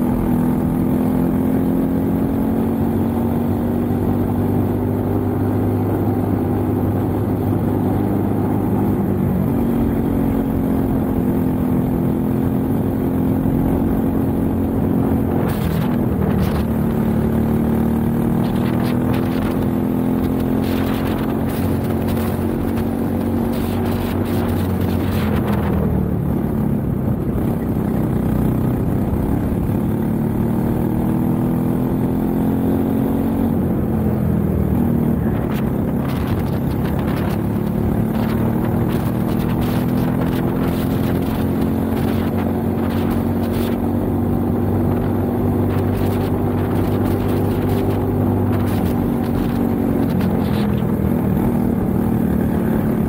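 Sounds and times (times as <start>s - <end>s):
racing kart engine: 0.0s - 53.0s.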